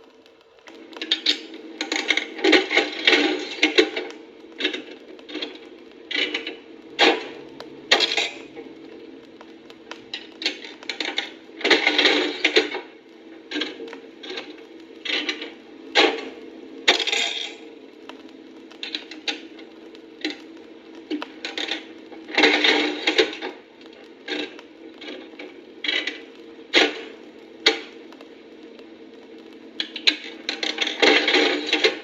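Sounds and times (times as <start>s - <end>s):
steady machine hum: 0.0s - 32.0s
machine clicks and clattering: 0.1s - 32.0s.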